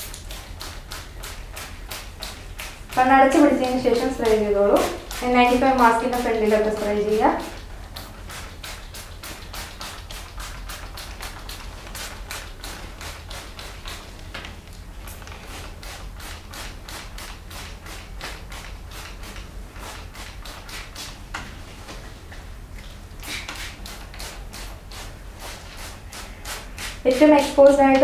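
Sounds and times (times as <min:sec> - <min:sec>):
spray bottle hissing: 0:00.0 - 0:14.2, 0:15.0 - 0:21.2, 0:23.2 - 0:27.7.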